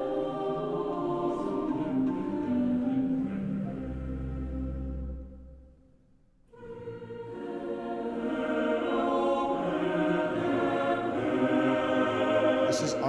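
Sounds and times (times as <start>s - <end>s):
choir singing sustained chords: 0.0s - 5.8s, 6.5s - 13.0s.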